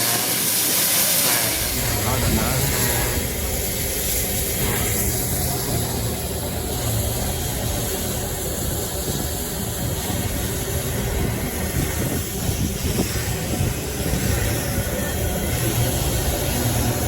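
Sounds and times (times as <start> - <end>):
vehicle rumble in motion: 1.6 - 17.0.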